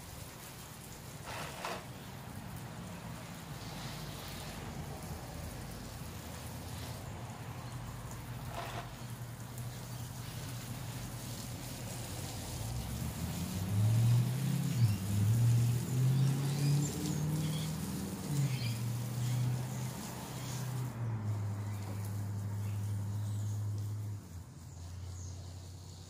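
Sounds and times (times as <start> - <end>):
hose spray nozzle hissing: 0.2 - 2.2, 3.5 - 22.4.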